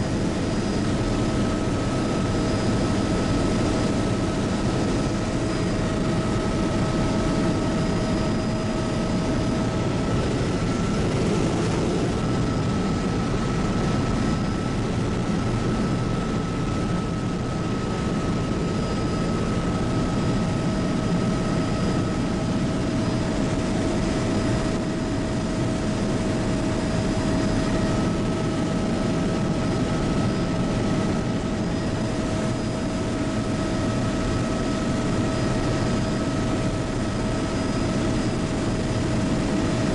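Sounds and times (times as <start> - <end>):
helicopter rotor and engine drone: 0.0 - 39.9
turbine whine: 0.0 - 39.9.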